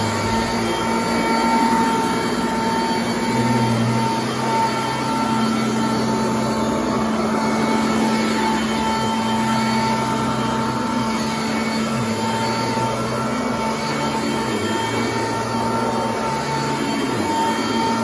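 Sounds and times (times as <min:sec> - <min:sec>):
upright vacuum running on carpet: 0:00.0 - 0:18.0.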